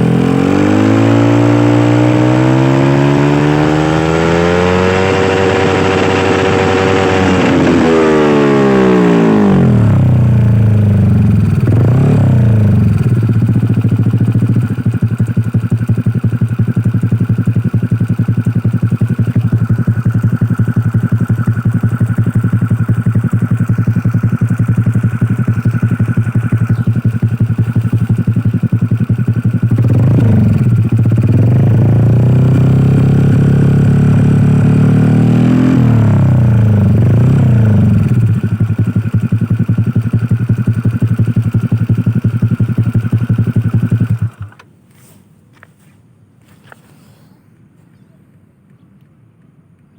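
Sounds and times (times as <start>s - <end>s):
scooter engine revving: 0.0s - 44.7s.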